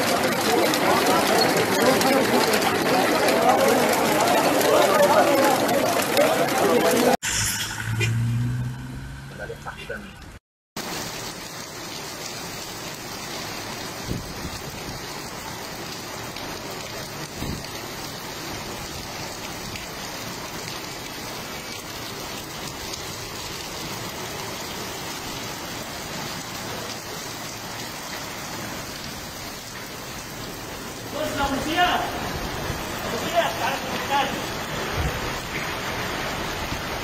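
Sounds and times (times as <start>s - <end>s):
heavy rain on wet paving: 0.0s - 9.2s, 10.1s - 37.0s.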